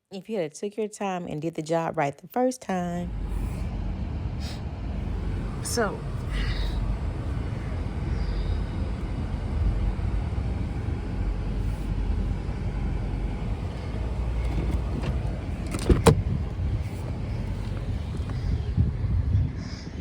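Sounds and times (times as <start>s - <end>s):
car engine rumble: 2.8s - 19.9s.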